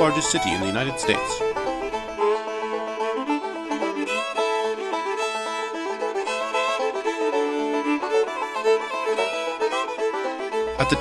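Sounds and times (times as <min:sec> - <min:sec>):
bluegrass fiddle and banjo music: 0:00.0 - 0:11.0.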